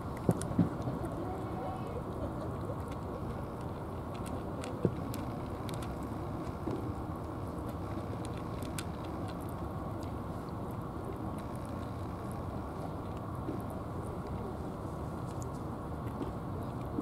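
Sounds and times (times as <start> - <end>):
low background rumble: 0.0 - 17.0
cat chewing dry food: 0.1 - 17.0.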